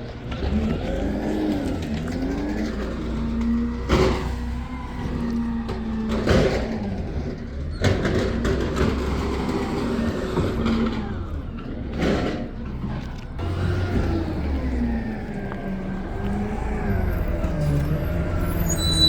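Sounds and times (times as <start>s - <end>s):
garbage truck engine revving: 0.0s - 19.0s.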